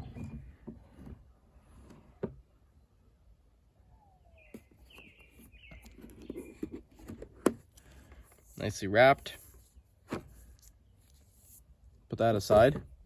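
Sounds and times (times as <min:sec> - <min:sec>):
birds chirping: 0:00.0 - 0:11.5.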